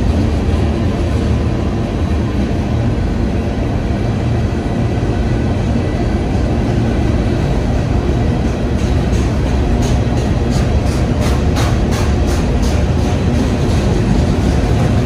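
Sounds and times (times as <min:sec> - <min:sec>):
freight train wheels rumbling on rails: 0:00.0 - 0:15.0.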